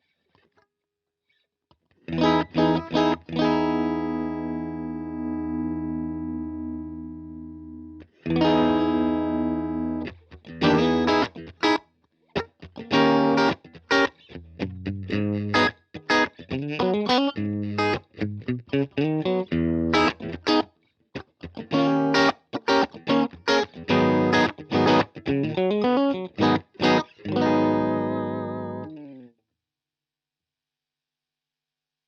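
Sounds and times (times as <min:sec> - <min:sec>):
electric guitar chords and riffs: 0:02.0 - 0:11.8, 0:12.4 - 0:29.3.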